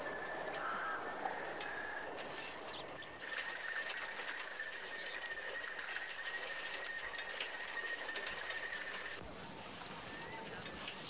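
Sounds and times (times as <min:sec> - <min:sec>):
bicycle rattling over paving: 0:00.0 - 0:09.2.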